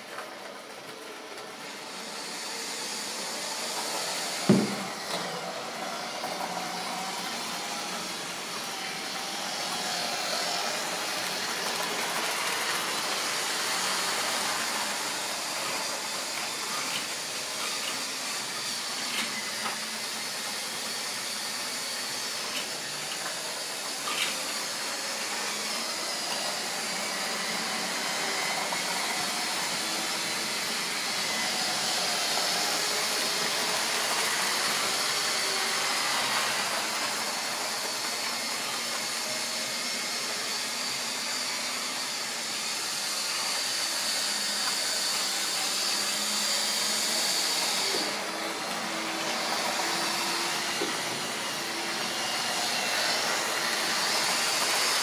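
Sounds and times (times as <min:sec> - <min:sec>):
model train wheels on rails: 0:00.0 - 0:55.0
small electric motor whirring: 0:00.7 - 0:55.0.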